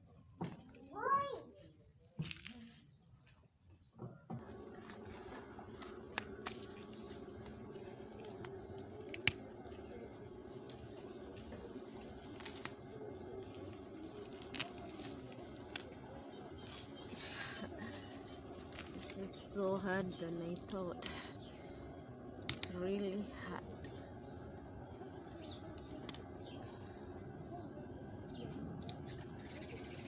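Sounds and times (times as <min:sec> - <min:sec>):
low hum: 0:04.3 - 0:30.0.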